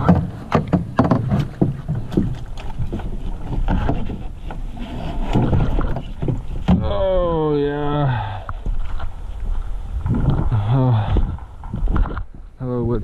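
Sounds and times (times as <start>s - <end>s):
paddle and waves knocking hull: 0.0s - 13.0s
wind rumble on microphone: 1.7s - 13.0s.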